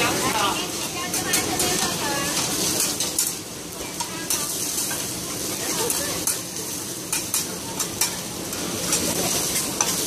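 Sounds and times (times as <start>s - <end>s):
food sizzling on griddle: 0.0s - 10.0s
metal spatula scraping griddle: 1.1s - 10.0s.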